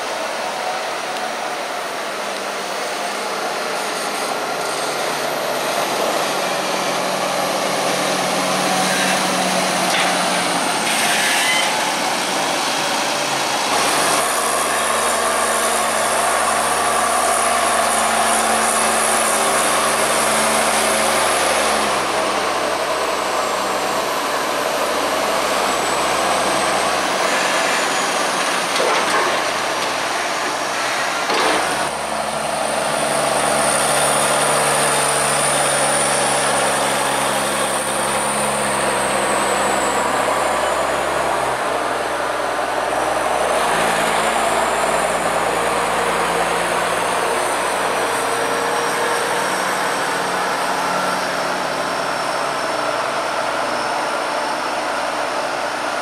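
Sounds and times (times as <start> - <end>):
tractor diesel engine working: 0.0 - 56.0.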